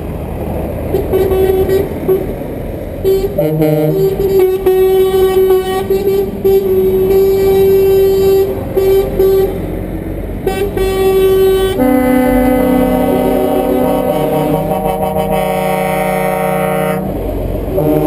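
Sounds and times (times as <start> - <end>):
lower-pitched horn: 0.9 - 2.3, 3.0 - 9.6, 10.4 - 18.0
truck air horns honking: 0.9 - 2.4, 3.0 - 9.8, 10.4 - 18.0.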